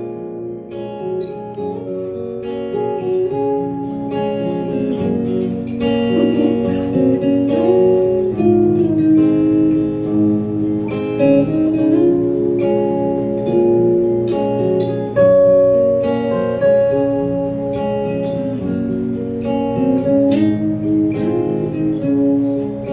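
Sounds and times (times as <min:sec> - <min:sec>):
guitar plucked and strummed: 0:00.0 - 0:22.9.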